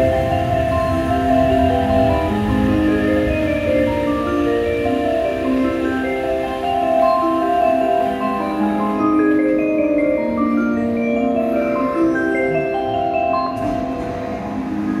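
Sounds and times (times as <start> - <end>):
soft mallet percussion melody: 0.0 - 15.0.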